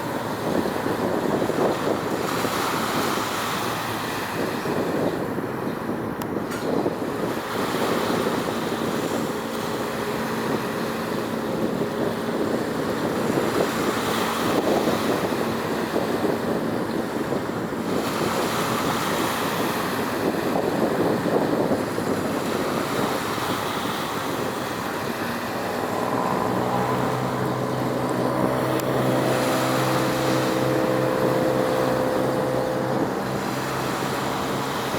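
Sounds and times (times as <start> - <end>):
faint engine hum: 0.0 - 34.9
sea water noise: 0.0 - 34.9
wind rushing over microphone: 0.0 - 34.9.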